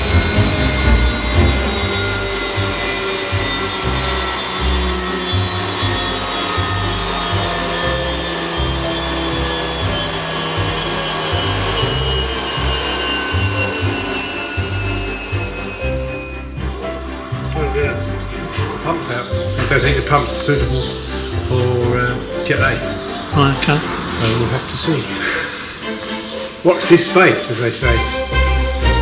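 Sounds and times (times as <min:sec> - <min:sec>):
low engine rumble: 0:00.0 - 0:26.4
turbine engine whining: 0:00.0 - 0:29.0.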